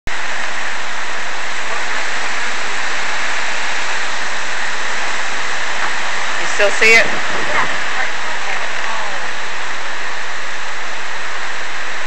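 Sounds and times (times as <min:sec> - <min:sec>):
heavy rain falling: 0:00.1 - 0:12.0.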